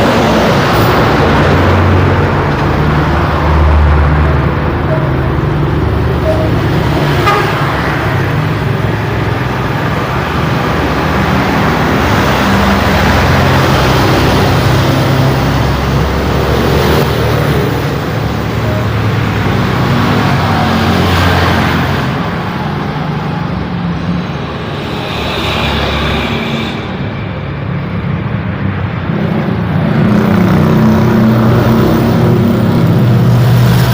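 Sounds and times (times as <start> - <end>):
heavy road traffic rumble: 0.0 - 33.9.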